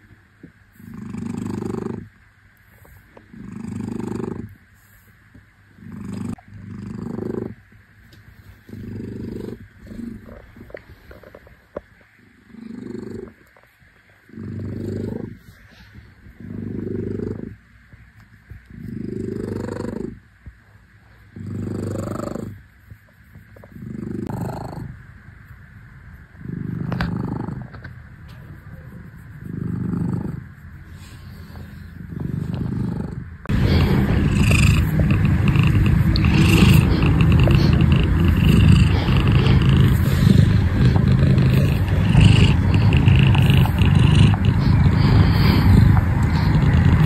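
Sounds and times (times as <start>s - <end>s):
cat purring: 0.7s - 5.1s, 5.7s - 25.1s, 26.1s - 47.0s.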